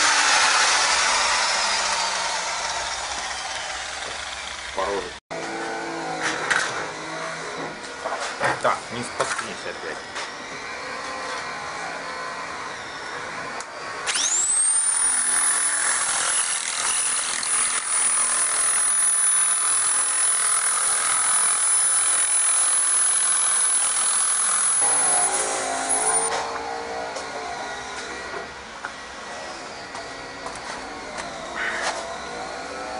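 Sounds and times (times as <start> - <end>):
power tool cutting steel sheet: 0.0 - 32.9.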